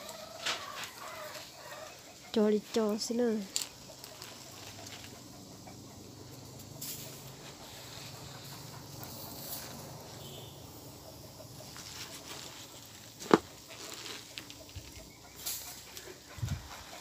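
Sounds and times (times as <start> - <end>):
leafy greens rustling: 0.0 - 5.3, 6.5 - 10.4, 11.6 - 17.0
wood fire crackling: 0.0 - 17.0.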